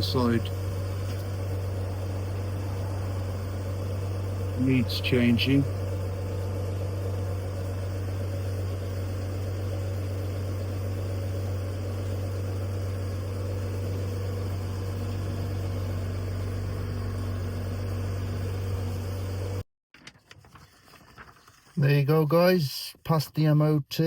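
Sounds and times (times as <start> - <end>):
low mechanical drone: 0.0 - 19.6.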